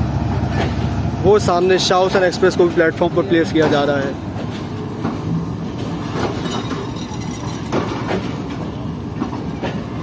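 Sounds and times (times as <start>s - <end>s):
train coaches rumbling past: 0.0s - 10.0s
wheels clacking over rail joints: 0.3s - 10.0s.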